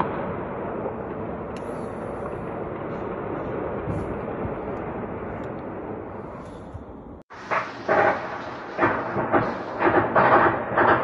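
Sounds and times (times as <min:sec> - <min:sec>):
distant fighting rumble: 0:00.0 - 0:11.0.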